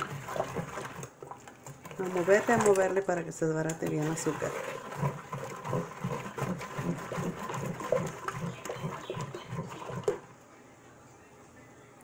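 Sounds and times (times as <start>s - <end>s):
liquid sloshing in a pot: 0.0s - 10.4s.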